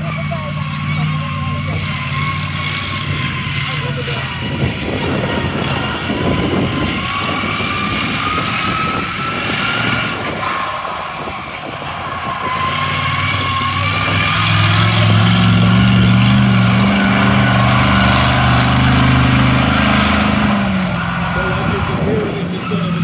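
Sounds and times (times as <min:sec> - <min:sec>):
monster truck engine running: 0:00.0 - 0:23.0.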